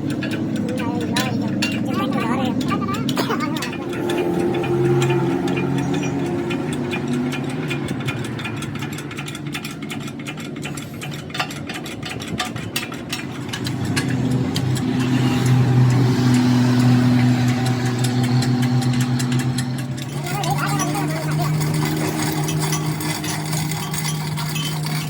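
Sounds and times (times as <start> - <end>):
machine humming: 0.0 - 10.5, 13.1 - 25.0
rapid ticking: 0.0 - 25.0.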